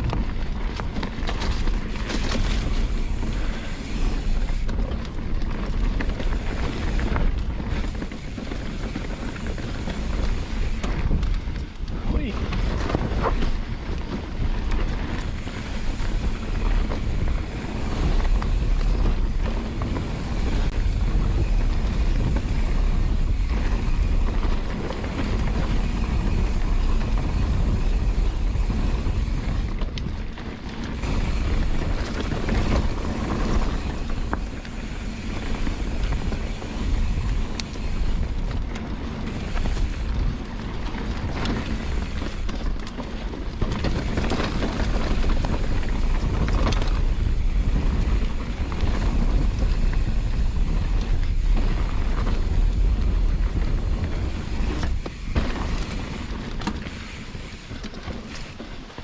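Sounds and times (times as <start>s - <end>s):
bike clicks and rattles: 0.0s - 59.0s
bike tyres rolling on dirt: 0.0s - 59.0s
wind rushing over microphone: 0.0s - 59.0s.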